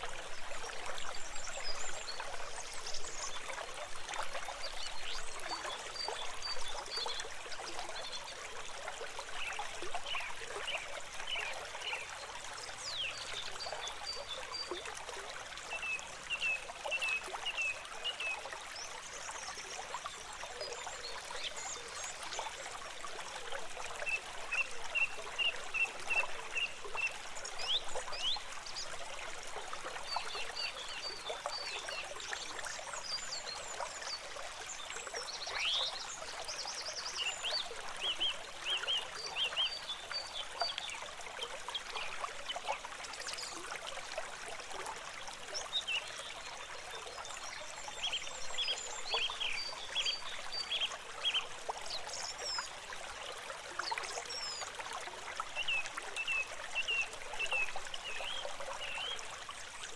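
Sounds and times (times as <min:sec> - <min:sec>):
water trickling in a stream: 0:00.0 - 0:59.9.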